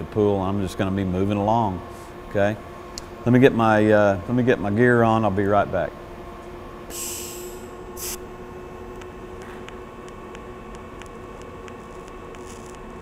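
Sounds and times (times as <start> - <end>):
welder electrical hum: 0.0 - 13.0.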